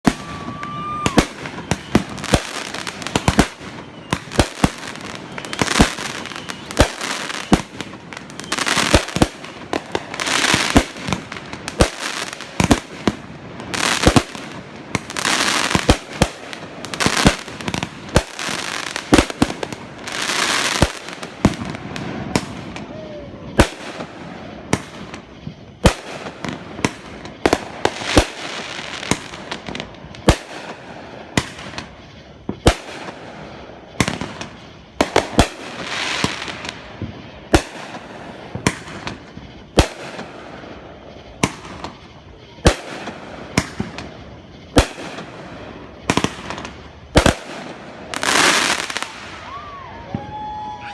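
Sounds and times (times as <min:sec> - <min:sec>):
fireworks hissing crackling bursts: 0:00.0 - 0:50.9
fireworks sharp bangs: 0:00.0 - 0:50.9.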